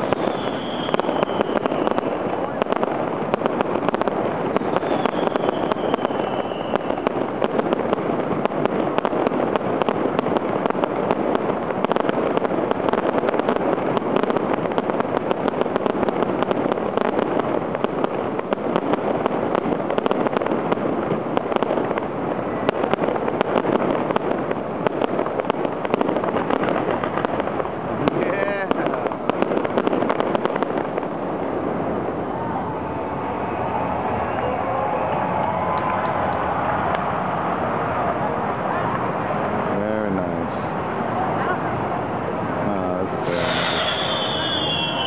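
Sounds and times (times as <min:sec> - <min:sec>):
fireworks crackling and popping: 0:00.0 - 0:45.0.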